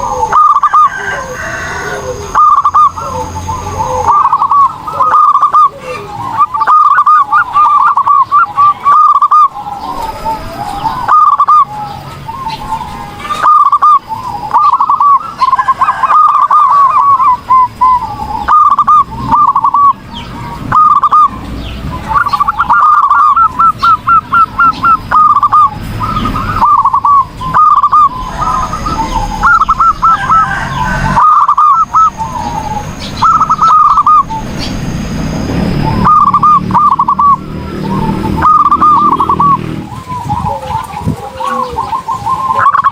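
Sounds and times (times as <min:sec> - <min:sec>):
dove singing staccato coos: 0:00.0 - 0:42.9.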